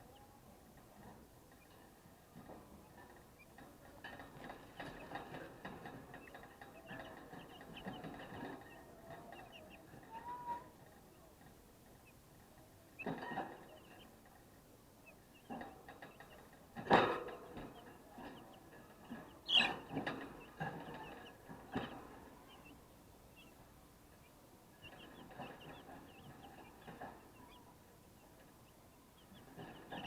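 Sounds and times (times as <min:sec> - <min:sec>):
chicks peeping: 0:00.0 - 0:30.0.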